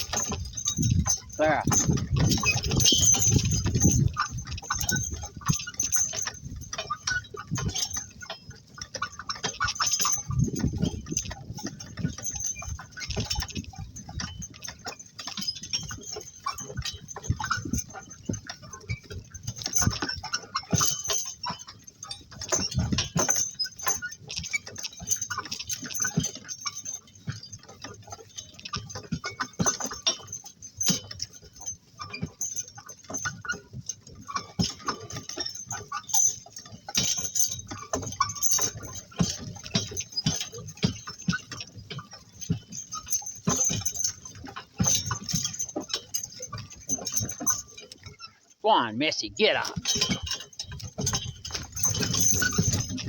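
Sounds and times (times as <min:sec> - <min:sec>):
harness jingling: 0:00.0 - 0:48.6, 0:49.4 - 0:53.0
cart rattling: 0:00.0 - 0:53.0
hooves clattering: 0:00.0 - 0:53.0.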